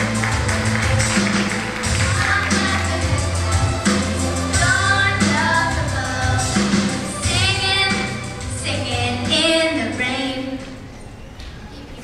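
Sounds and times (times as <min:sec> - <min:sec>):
musical accompaniment: 0:00.0 - 0:11.7.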